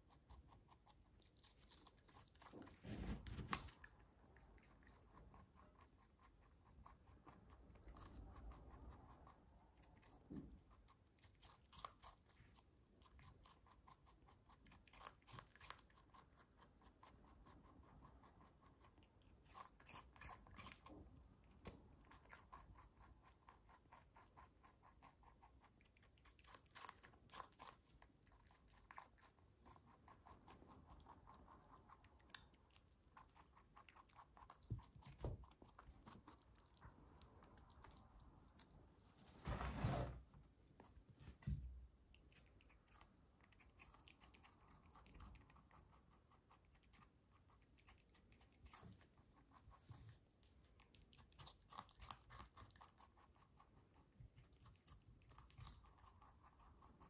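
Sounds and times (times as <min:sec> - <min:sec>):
rabbit chewing cucumber: 0:00.0 - 0:57.0.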